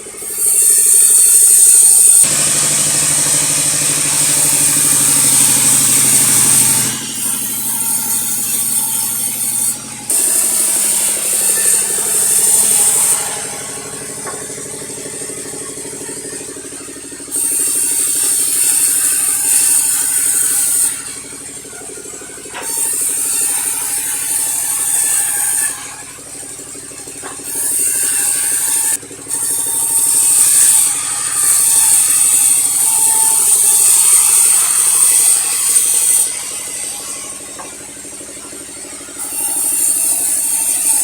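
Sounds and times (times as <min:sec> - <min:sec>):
saw cutting through log: 0:00.0 - 0:41.0.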